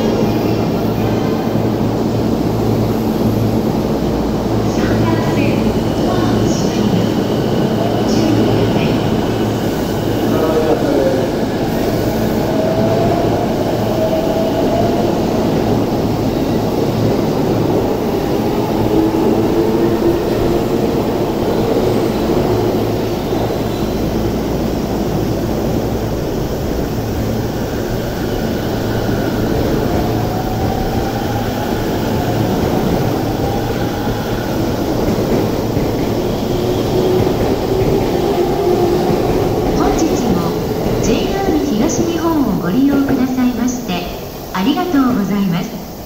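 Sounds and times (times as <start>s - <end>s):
train wheels rumbling on rails: 0.0s - 45.7s.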